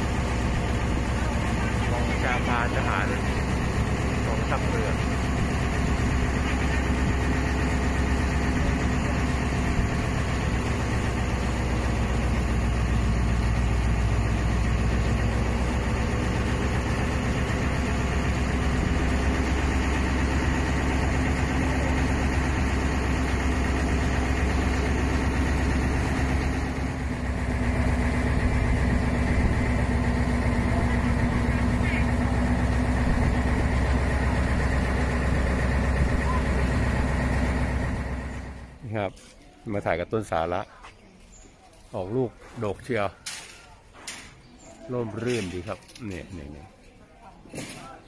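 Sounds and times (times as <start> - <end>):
boat engine droning: 0.0 - 38.8.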